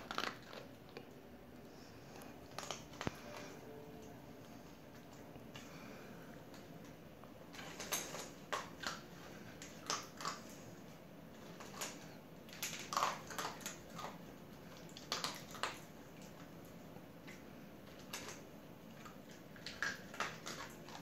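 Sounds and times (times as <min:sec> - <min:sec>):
dog crunching dry kibble: 0:00.0 - 0:03.7, 0:06.5 - 0:21.0.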